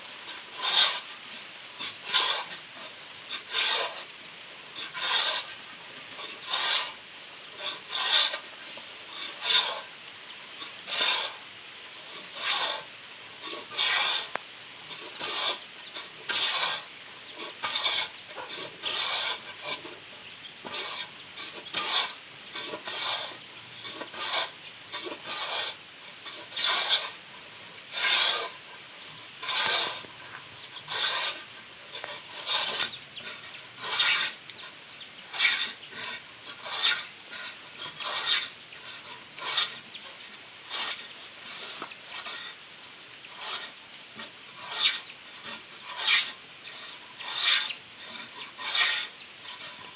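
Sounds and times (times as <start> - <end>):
hand plane scraping wood: 0.1 - 1.1, 1.8 - 2.6, 3.3 - 4.1, 4.7 - 10.0, 10.6 - 20.0, 20.6 - 40.0, 40.7 - 42.7, 43.3 - 49.9.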